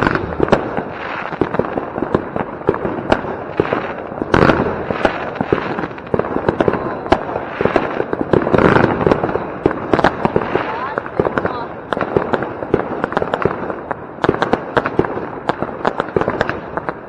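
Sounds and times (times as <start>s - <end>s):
firework bangs: 0.0s - 17.0s
firework crackling: 0.0s - 17.0s.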